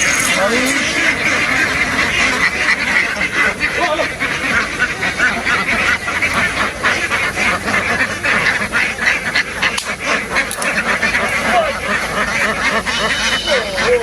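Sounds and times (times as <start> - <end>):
flock of ducks quacking: 0.0 - 14.0.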